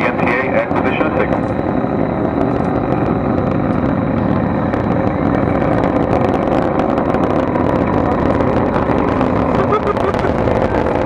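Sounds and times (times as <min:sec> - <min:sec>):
rocket engines rumbling and crackling: 0:00.0 - 0:11.0.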